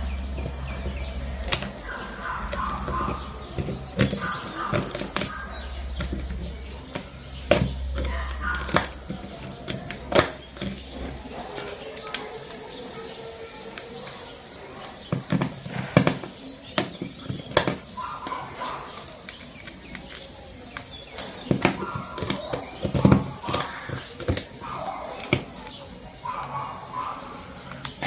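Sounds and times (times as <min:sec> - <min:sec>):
scraping: 0:00.0 - 0:28.0
small tools clicking and tapping: 0:00.1 - 0:12.6, 0:13.5 - 0:26.5, 0:27.6 - 0:28.0.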